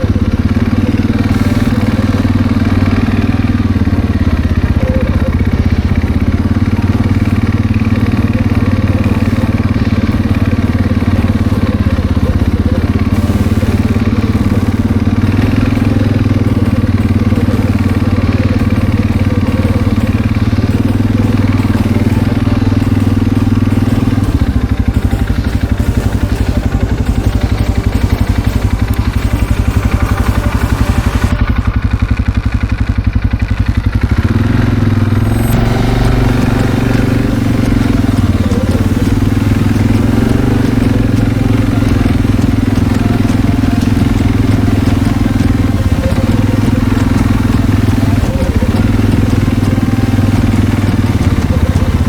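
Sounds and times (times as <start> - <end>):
loud engine running: 0.0 - 52.0.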